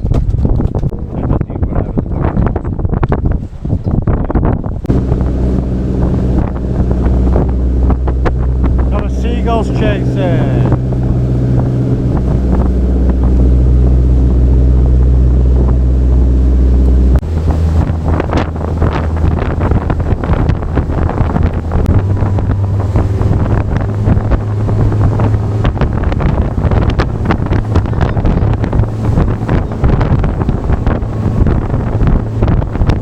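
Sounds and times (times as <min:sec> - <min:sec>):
wind buffeting microphone: 0:00.0 - 0:33.0
boat engine running: 0:04.8 - 0:33.0
water splashing against hull: 0:04.8 - 0:33.0.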